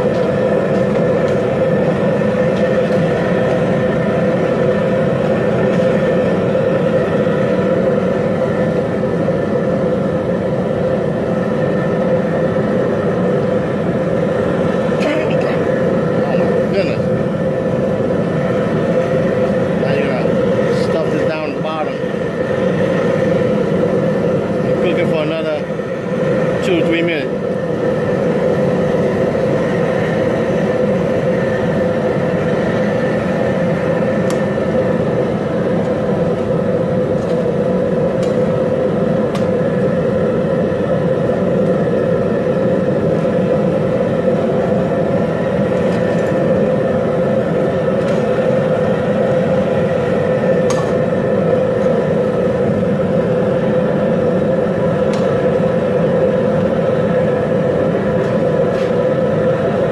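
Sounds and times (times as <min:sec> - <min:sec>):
gas burner roaring: 0:00.0 - 0:59.9.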